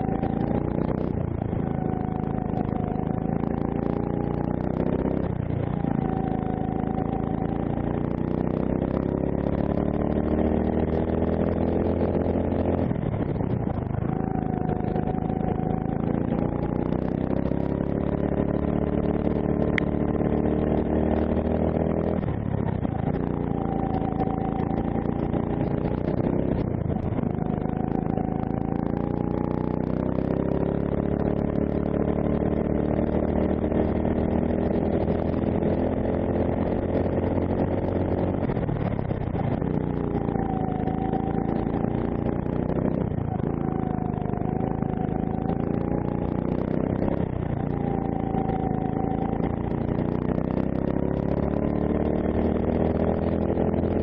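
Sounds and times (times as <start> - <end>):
kart engine accelerating: 0.0 - 54.0.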